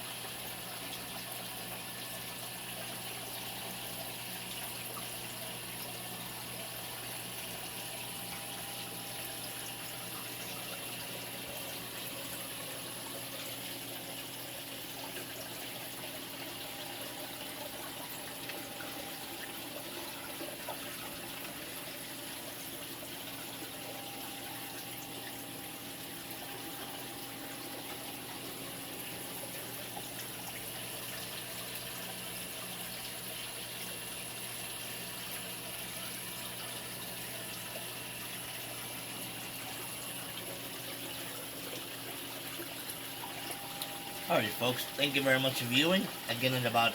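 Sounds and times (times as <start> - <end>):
aquarium water splashing: 0.0 - 46.9.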